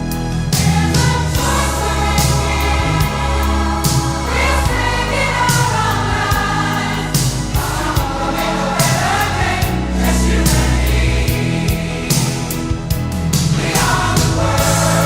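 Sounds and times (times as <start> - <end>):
band playing: 0.0 - 15.0
pop choir singing: 0.0 - 15.0
steady drum beat: 0.0 - 15.0.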